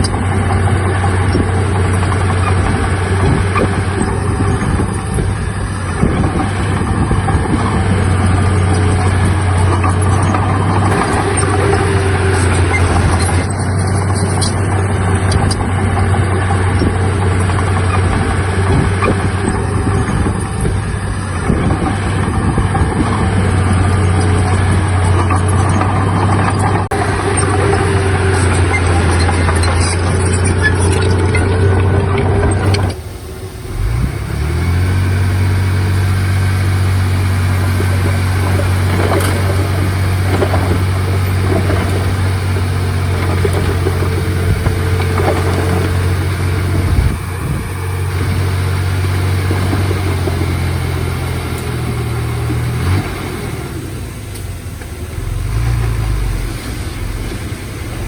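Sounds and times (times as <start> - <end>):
diesel machinery engine running: 0.0 - 58.0.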